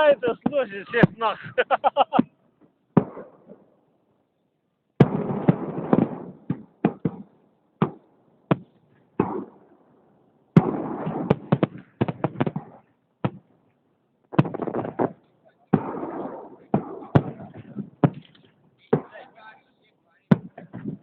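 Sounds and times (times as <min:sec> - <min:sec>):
fireworks bangs and crackling: 0:00.0 - 0:02.3, 0:02.9 - 0:03.7, 0:05.0 - 0:09.7, 0:10.5 - 0:13.5, 0:14.3 - 0:19.6, 0:20.3 - 0:21.0.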